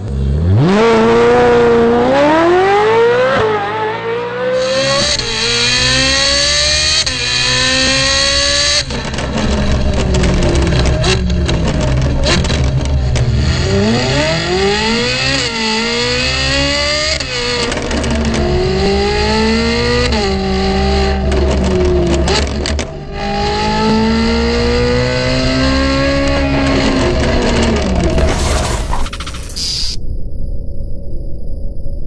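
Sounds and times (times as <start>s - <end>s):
sports car engine revving: 0.0s - 29.7s.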